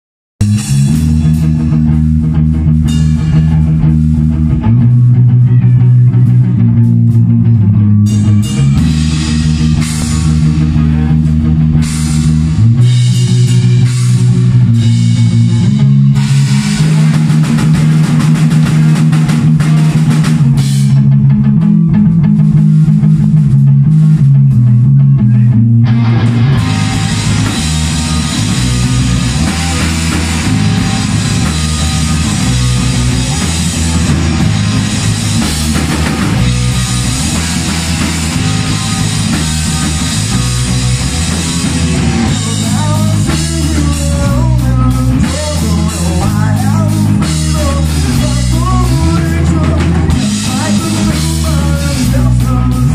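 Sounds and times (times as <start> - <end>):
bass guitar: 0.4 - 52.9
drum kit: 0.4 - 52.9
rock music with guitar: 0.4 - 52.9.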